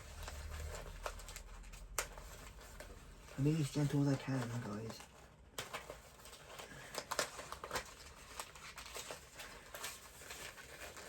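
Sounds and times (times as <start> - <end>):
plastic toy clicks and rustles: 0.0 - 11.0.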